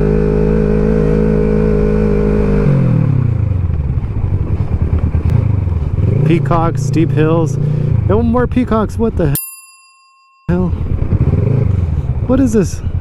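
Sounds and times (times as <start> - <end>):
motorcycle engine running: 0.0 - 9.3, 10.5 - 13.0.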